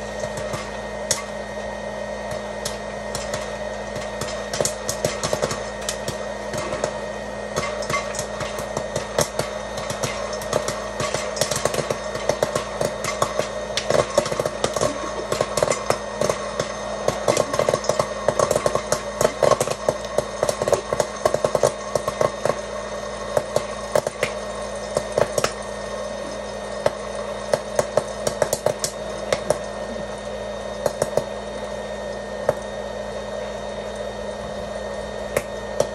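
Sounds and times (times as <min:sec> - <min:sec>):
popcorn kernels popping: 0:00.0 - 0:35.9
popcorn maker fan whirring: 0:00.0 - 0:35.9.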